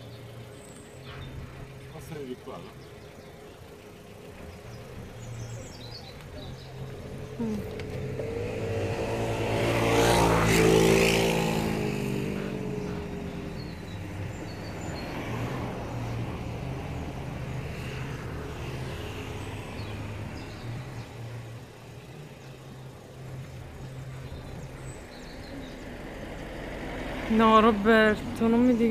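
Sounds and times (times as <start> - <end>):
low engine hum: 0.0 - 28.9
vehicle passing by: 0.0 - 28.9.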